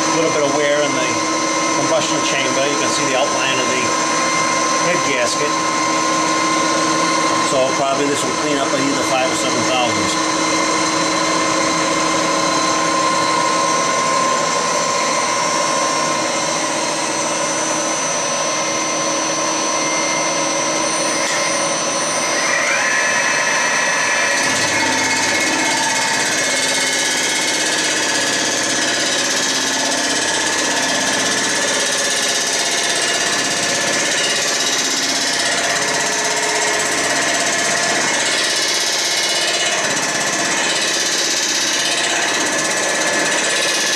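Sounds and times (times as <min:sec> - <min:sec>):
milling machine cutting metal: 0:00.0 - 0:43.9.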